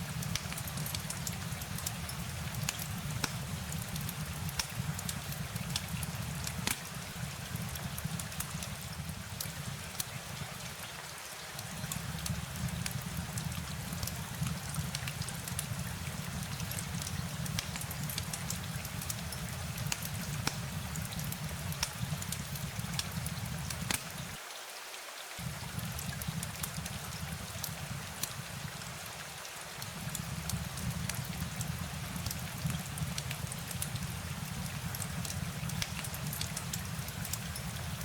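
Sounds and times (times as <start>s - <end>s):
rain drops ticking: 0.0s - 24.7s, 25.4s - 38.0s.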